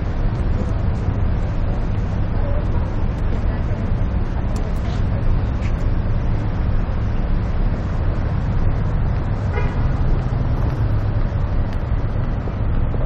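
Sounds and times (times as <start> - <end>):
passing cars rumbling: 0.0 - 13.0.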